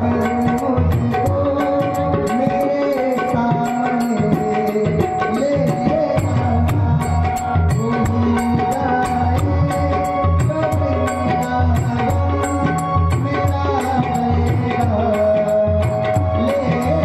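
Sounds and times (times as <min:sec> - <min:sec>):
tabla playing: 0:00.0 - 0:17.0.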